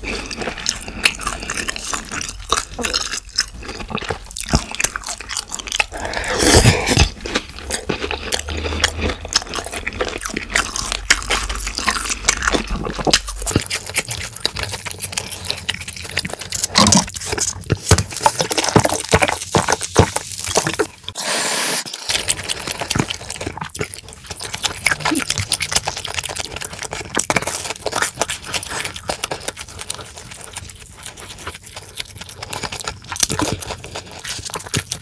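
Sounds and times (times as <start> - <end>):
chewing and crunching food: 0.0 - 21.2, 21.9 - 35.0.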